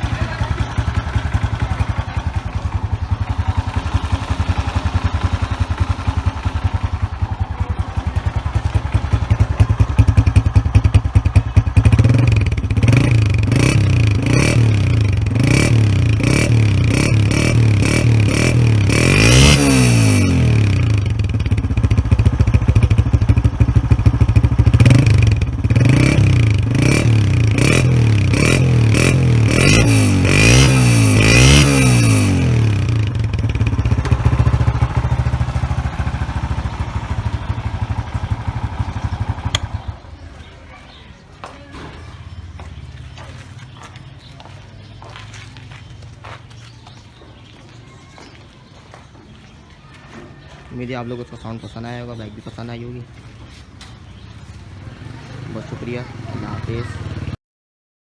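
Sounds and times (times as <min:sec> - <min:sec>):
motorcycle engine idling and revving: 0:00.0 - 0:57.4.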